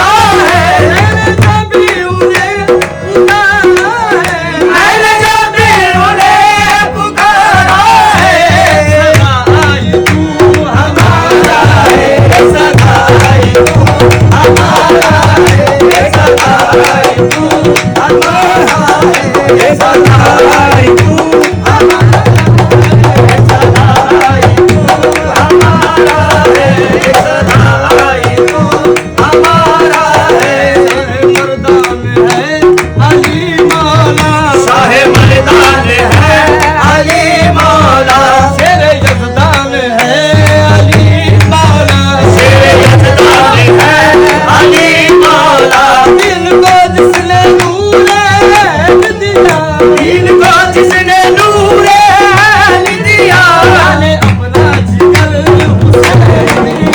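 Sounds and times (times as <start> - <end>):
tabla fast rhythm: 0.0 - 56.9.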